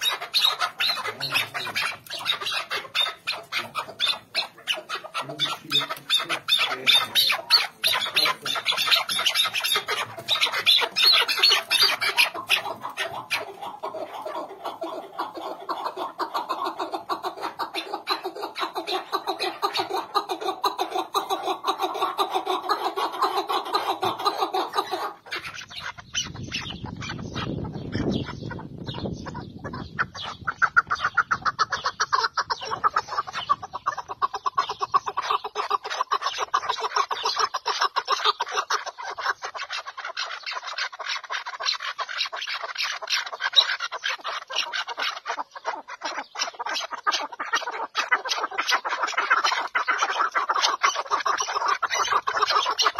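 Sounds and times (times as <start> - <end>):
partridges clucking calls: 0.0 - 52.9.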